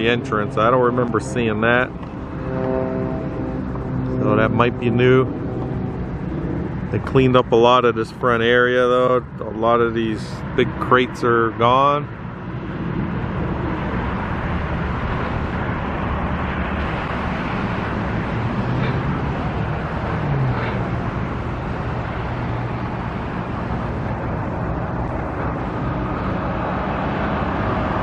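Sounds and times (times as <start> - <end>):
traffic noise: 0.0 - 28.0
vehicle engine hum: 0.0 - 28.0.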